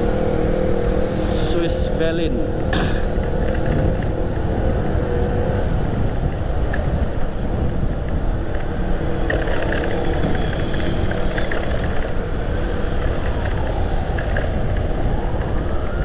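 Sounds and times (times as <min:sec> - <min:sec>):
motorcycle engine: 0:00.0 - 0:15.1
surrounding traffic: 0:00.0 - 0:16.0
wind rumble over microphone: 0:00.0 - 0:16.0.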